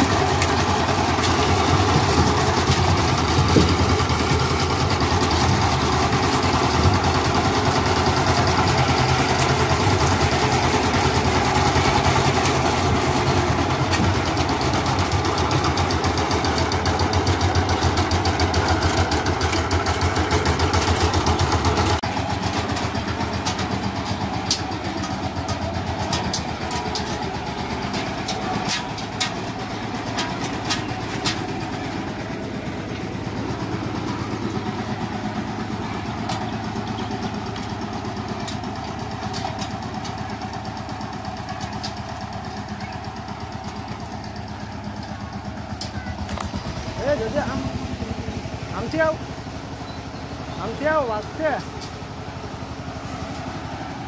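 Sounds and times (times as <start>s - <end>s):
tiller engine running: 0.0s - 54.0s.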